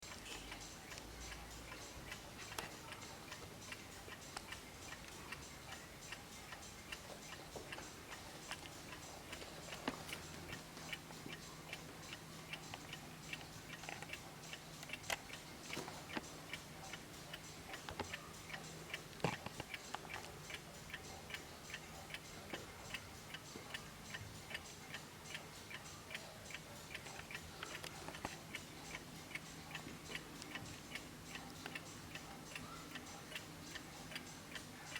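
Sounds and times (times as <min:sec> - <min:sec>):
wall clock ticking: 0:00.0 - 0:34.9.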